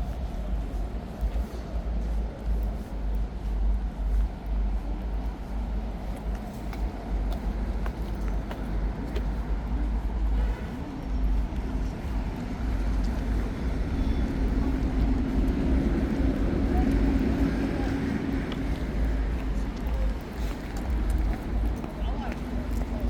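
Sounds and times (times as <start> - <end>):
cars passing: 0.0 - 23.0
vehicle engine hum: 0.0 - 23.0.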